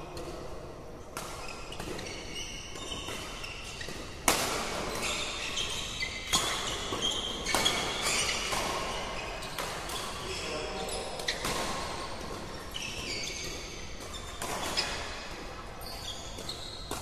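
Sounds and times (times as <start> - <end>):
shoes squeaking on court: 1.2 - 17.0.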